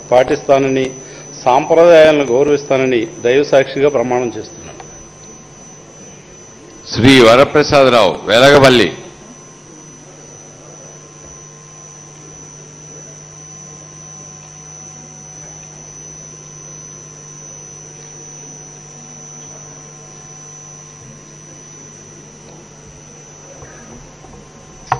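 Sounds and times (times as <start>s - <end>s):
electrical hum: 0.0s - 24.9s.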